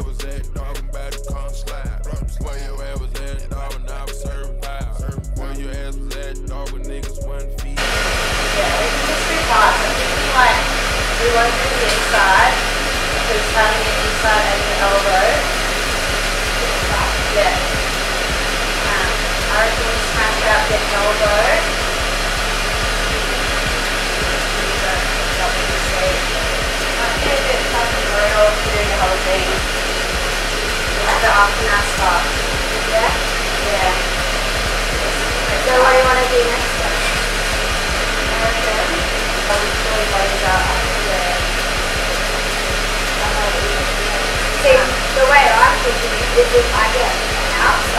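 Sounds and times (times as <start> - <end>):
air rushing through hose: 7.8 - 47.9.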